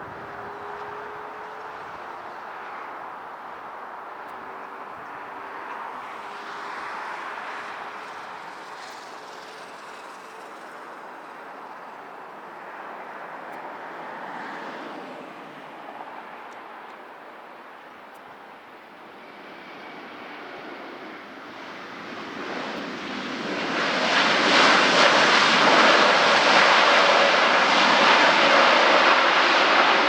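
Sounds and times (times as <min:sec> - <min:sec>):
jet engines rushing: 0:00.0 - 0:30.0.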